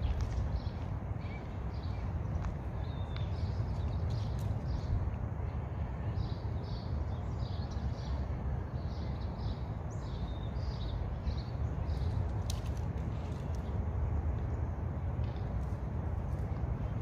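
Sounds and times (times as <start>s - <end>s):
small birds chirping: 0.0s - 13.8s
steady low rumble: 0.0s - 17.0s.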